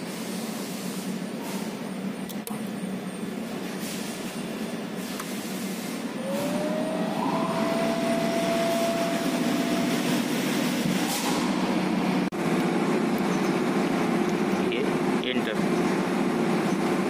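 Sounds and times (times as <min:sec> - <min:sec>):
machine hum and rumble: 0:00.0 - 0:17.0.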